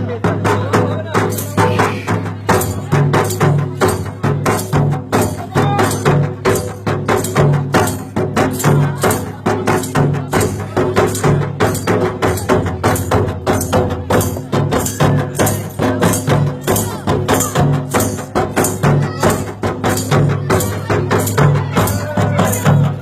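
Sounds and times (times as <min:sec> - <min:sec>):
fast percussion beat: 0:00.0 - 0:23.0.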